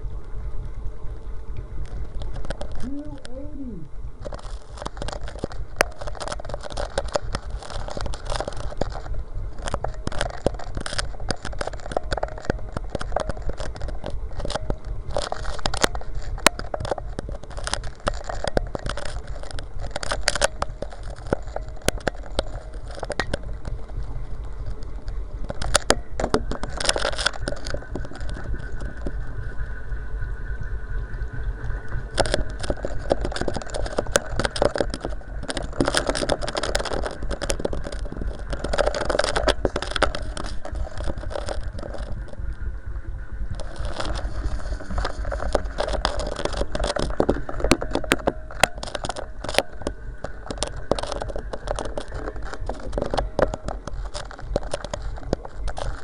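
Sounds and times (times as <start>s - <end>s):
faint steady whine: 0.0s - 56.0s
camera scraping inside plastic pipe: 4.2s - 29.8s, 31.8s - 42.6s, 43.5s - 56.0s.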